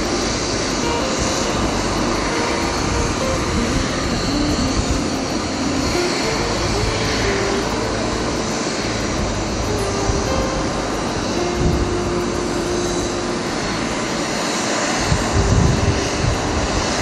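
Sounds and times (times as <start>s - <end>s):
jet engines running: 0.0s - 17.0s
slow background music: 0.0s - 17.0s.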